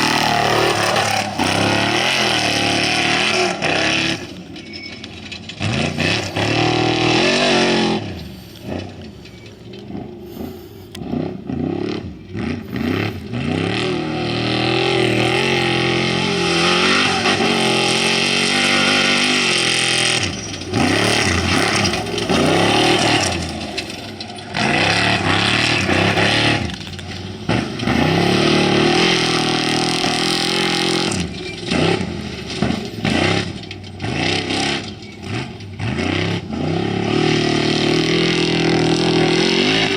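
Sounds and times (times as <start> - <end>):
race vehicles passing at full throttle: 0.0 - 4.6, 5.5 - 39.9.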